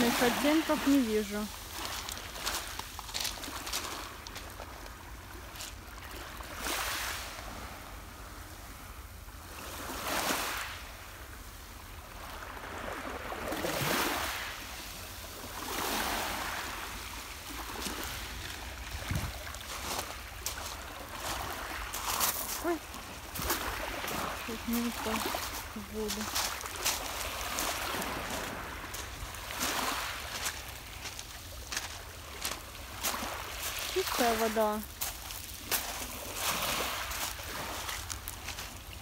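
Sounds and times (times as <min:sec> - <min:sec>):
small waves washing on pebbles: 0:00.0 - 0:39.0.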